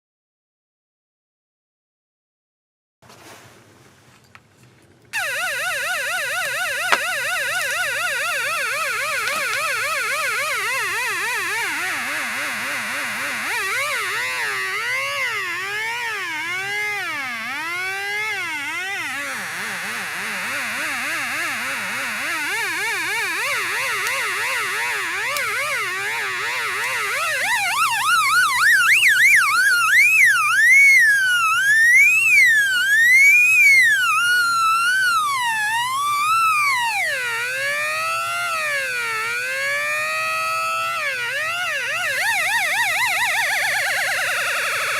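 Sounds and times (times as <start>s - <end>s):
electronic tone warbling: 5.2s - 44.9s.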